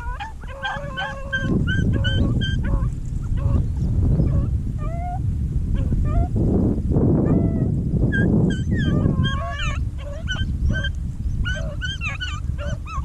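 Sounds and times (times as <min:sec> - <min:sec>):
hounds baying and yelping: 0:00.0 - 0:05.2, 0:07.3 - 0:13.0.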